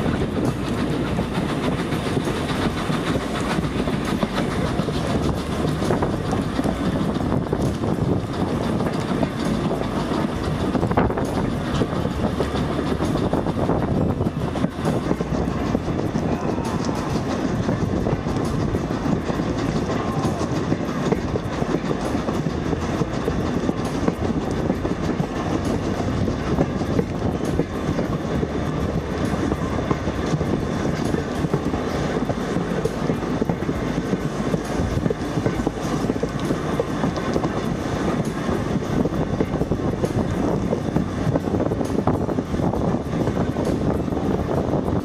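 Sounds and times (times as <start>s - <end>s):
train wheels rumbling and clattering: 0.0s - 45.0s.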